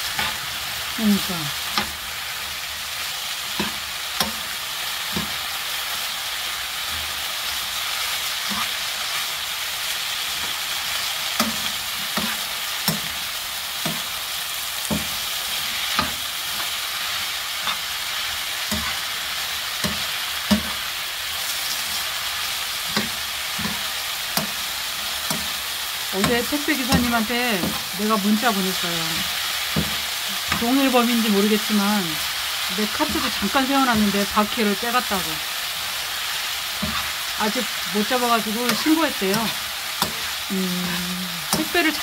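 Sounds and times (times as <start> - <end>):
vegetables sizzling in oil: 0.0 - 42.0.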